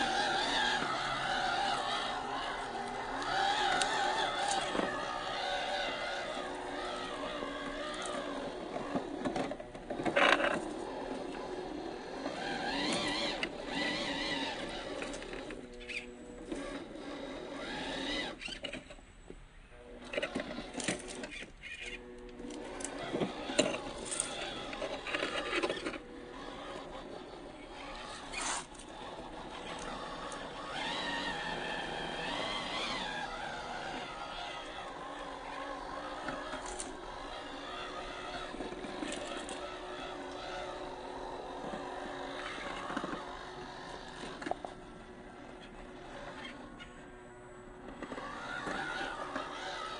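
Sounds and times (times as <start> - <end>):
small electric motor whining: 0.0 - 19.0, 19.7 - 49.9
tyres scraping on stone: 0.0 - 19.0, 20.0 - 44.8.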